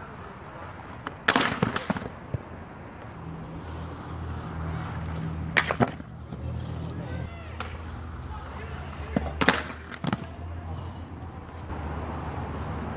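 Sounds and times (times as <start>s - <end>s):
skate wheels rolling on concrete: 0.0s - 12.9s
skates clacking on concrete ledge: 0.1s - 11.7s.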